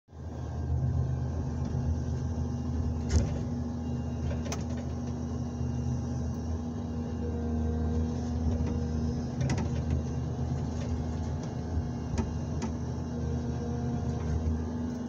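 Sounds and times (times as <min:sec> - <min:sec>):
diesel engine and hydraulics running: 0:00.1 - 0:15.0.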